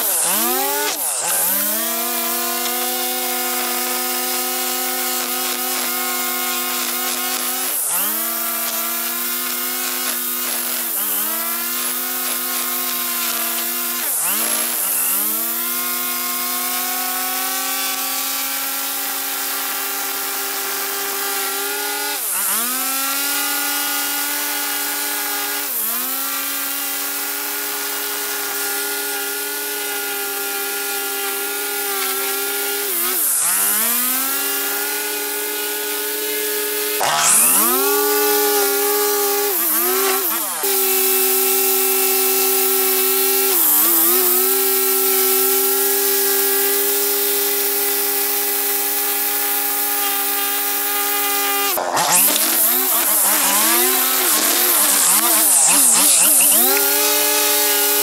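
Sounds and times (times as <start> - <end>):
string trimmer whining: 0.0 - 58.0.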